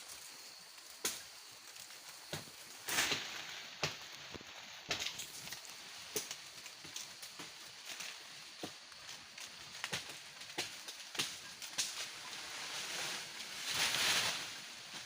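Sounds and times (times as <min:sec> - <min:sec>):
twigs snapping and leaves rustling: 0:00.0 - 0:15.0.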